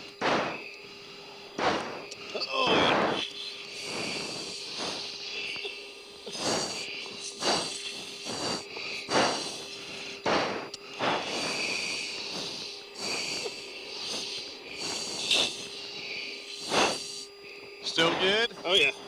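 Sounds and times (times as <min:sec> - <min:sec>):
heavy breathing into mask microphone: 0:00.0 - 0:18.4
cockpit hum and hiss: 0:00.0 - 0:19.0.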